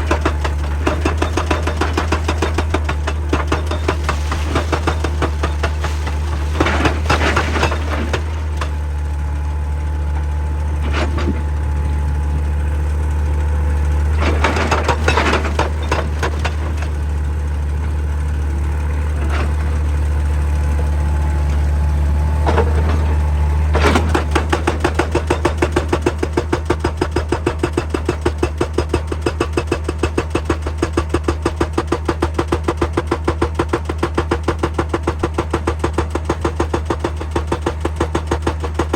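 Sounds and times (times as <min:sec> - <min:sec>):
hydraulic rock breaker hammering: 0:00.0 - 0:09.4, 0:14.0 - 0:19.9, 0:22.3 - 0:38.9
excavator diesel engine running: 0:00.0 - 0:38.9.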